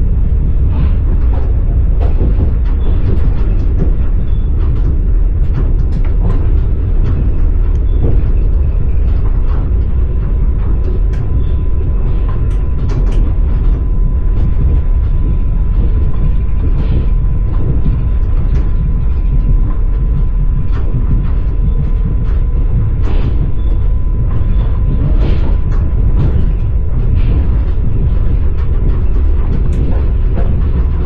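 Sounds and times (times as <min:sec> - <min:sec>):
thin steady whine: 0:00.0 - 0:31.0
train rumble: 0:00.0 - 0:31.0.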